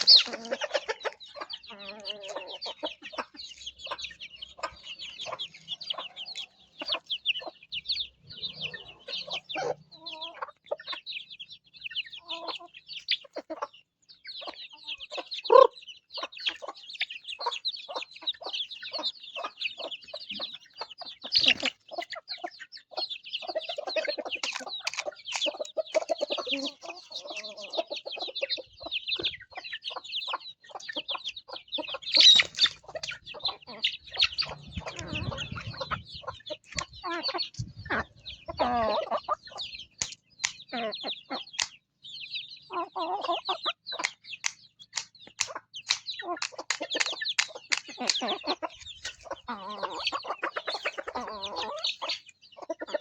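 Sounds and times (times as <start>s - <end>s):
chicks peeping: 0.0s - 53.0s
hen clucking: 0.0s - 53.0s.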